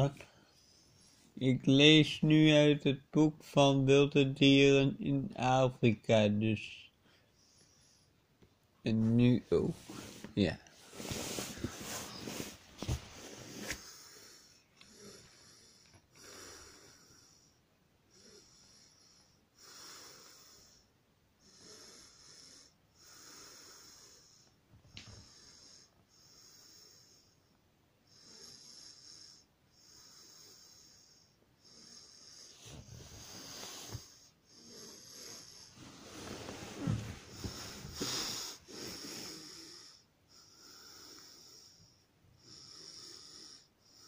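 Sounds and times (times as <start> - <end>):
person breathing slowly: 0.2 - 1.4, 7.0 - 8.2, 9.7 - 27.5, 28.1 - 44.0.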